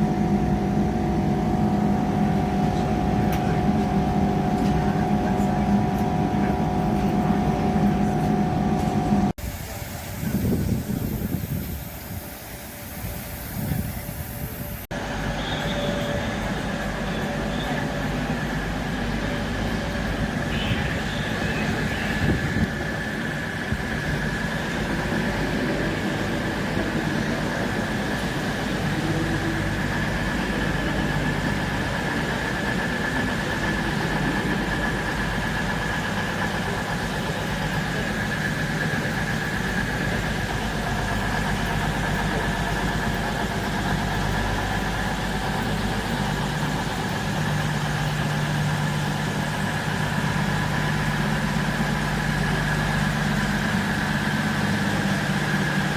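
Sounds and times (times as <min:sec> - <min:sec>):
diesel train engine humming: 0:00.0 - 0:55.9
high-pitched whine: 0:00.0 - 0:55.9.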